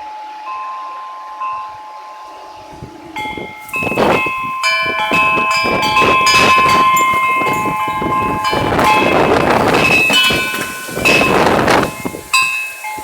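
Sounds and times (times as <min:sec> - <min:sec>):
metal wind chimes ringing: 0:00.0 - 0:13.0
storm wind gusts on microphone: 0:02.6 - 0:13.0.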